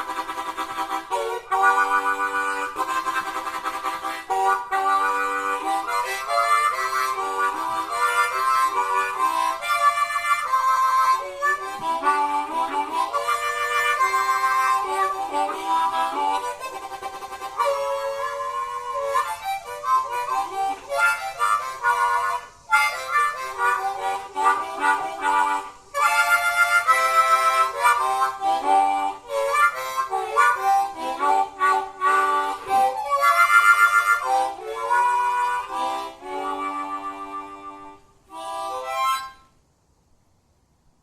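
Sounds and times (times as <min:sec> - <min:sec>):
harmonica playing: 0:00.0 - 0:39.6.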